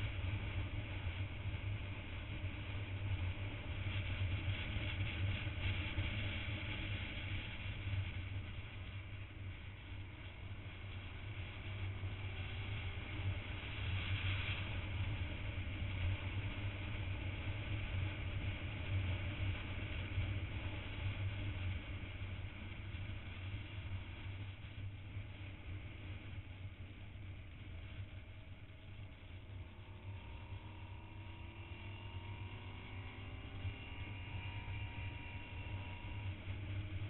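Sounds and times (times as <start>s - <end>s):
motorcycle engine drone: 0.0s - 37.0s.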